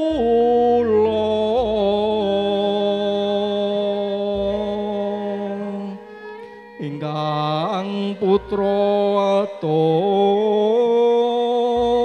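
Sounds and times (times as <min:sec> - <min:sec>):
person singing slow melody: 0:00.0 - 0:12.0.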